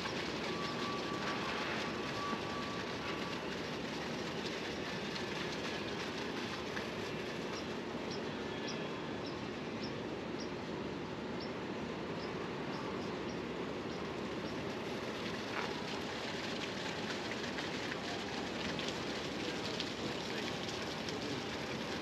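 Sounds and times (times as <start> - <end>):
distant city rumble: 0.0 - 22.0.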